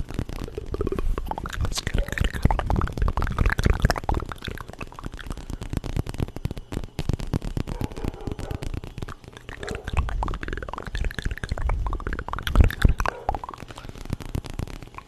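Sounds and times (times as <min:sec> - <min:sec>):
wet mouth clicks and smacks: 0:00.0 - 0:15.0.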